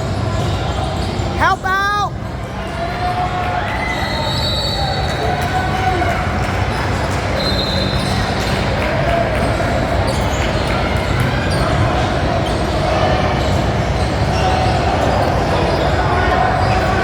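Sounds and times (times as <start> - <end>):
players and spectators talking: 0.0 - 17.0.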